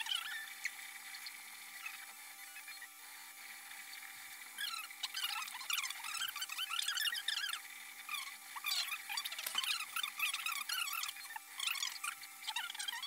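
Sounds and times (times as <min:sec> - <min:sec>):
printer stepper motors whining: 0:00.0 - 0:13.0
steady hum: 0:00.0 - 0:13.0.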